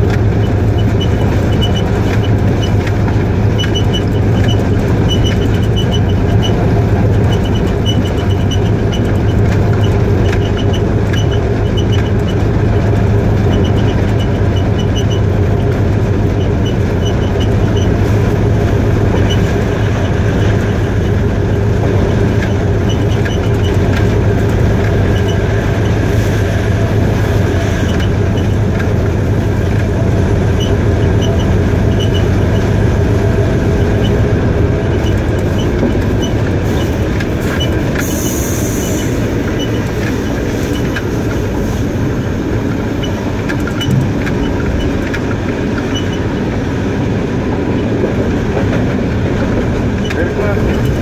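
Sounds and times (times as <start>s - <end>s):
locomotive engine hum: 0.0s - 51.0s
wheels rolling on rails: 0.0s - 51.0s.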